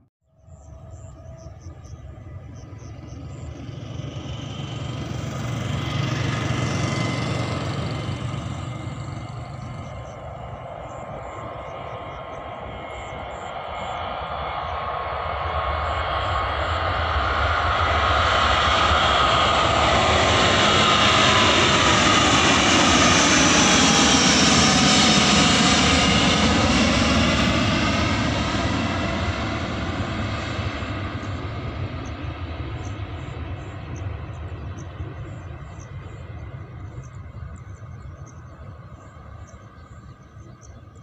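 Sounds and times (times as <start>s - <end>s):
jet airliner engines at takeoff: 0.0s - 41.0s.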